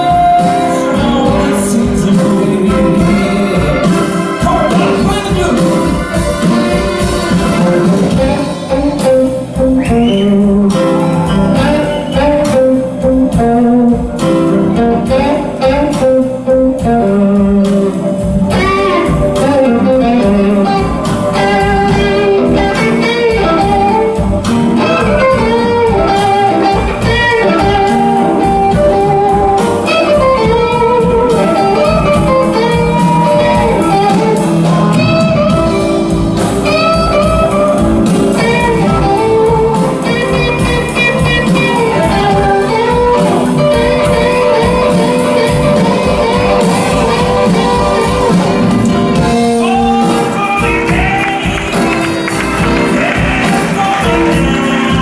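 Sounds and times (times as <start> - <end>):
blues band playing: 0.0 - 55.0
electric guitar solo: 5.6 - 55.0.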